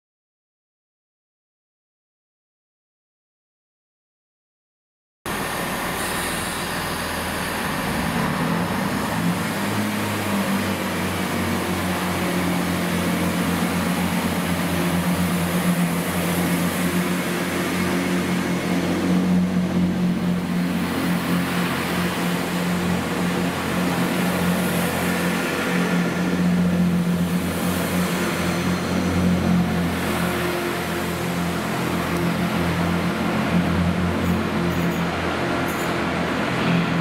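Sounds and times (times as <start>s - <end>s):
train engine drone: 5.3s - 37.0s.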